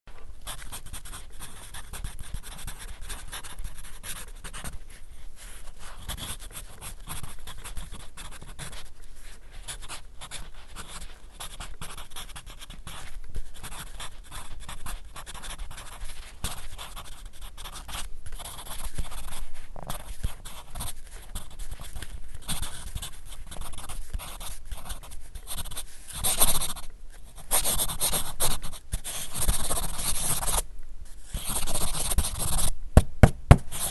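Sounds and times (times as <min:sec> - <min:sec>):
pencil writing on paper: 0:00.5 - 0:30.6, 0:31.2 - 0:32.7, 0:33.5 - 0:33.9.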